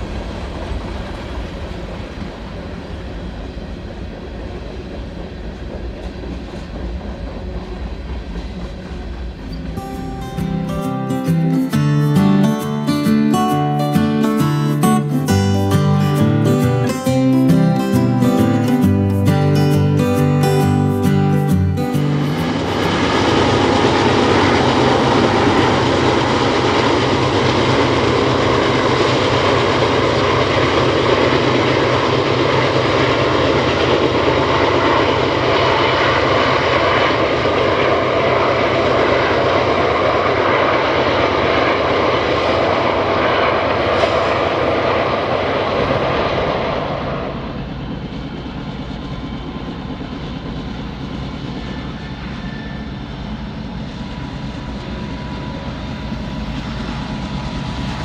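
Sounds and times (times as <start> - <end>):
aircraft engines droning: 0.0 - 58.0.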